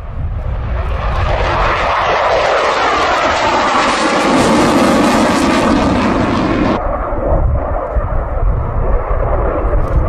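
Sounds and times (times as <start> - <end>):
jet engines passing overhead: 0.0 - 10.0.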